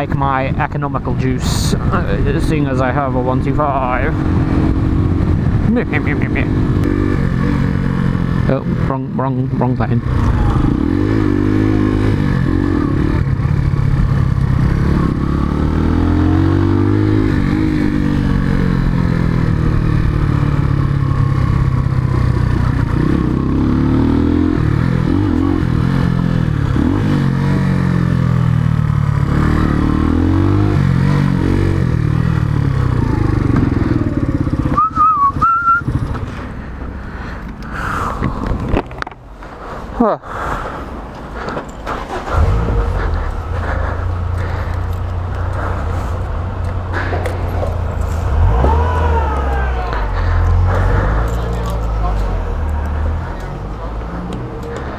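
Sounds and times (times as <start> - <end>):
motorcycle engine revving: 1.7 - 37.2, 41.4 - 54.9.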